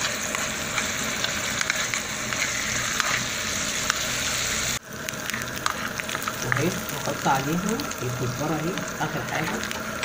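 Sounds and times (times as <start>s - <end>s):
garlic sizzling and crackling: 0.0s - 10.0s.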